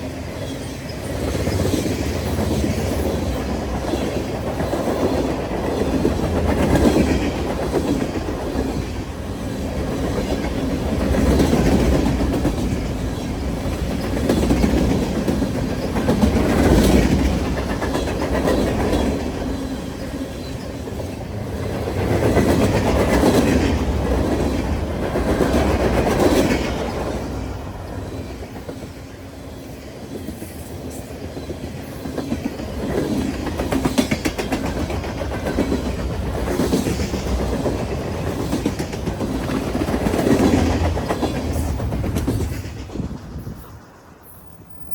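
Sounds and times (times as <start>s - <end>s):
train wheels clattering over rail joints: 0.3s - 29.2s, 30.0s - 43.5s.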